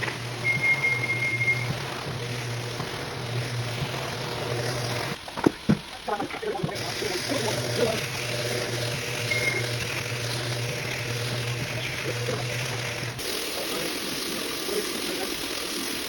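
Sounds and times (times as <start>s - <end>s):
machine hum: 0.0s - 16.0s
water spraying: 0.0s - 16.0s.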